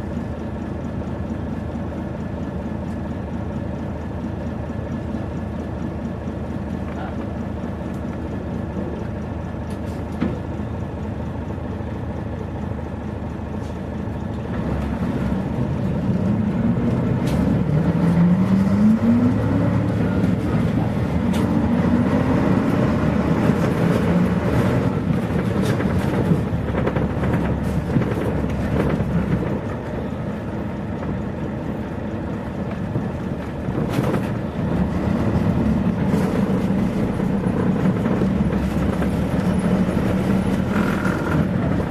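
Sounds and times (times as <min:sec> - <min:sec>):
bus diesel engine accelerating: 0:00.0 - 0:41.9.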